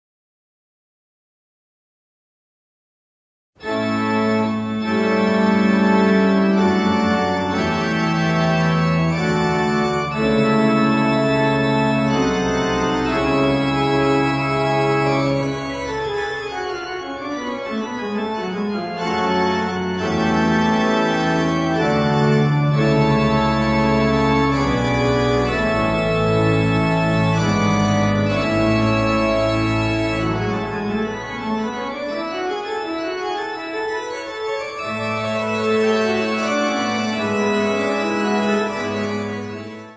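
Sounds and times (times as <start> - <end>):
organ playing slow chords: 3.6 - 39.9.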